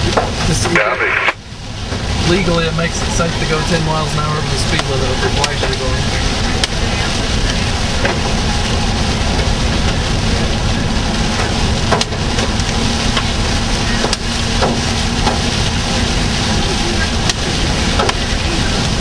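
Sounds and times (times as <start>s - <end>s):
road and wind noise in car: 0.0s - 19.0s.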